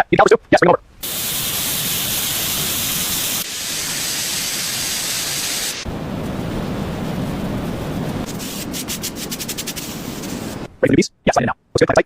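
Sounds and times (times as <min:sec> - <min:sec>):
loud hissing noise: 0:01.0 - 0:10.7.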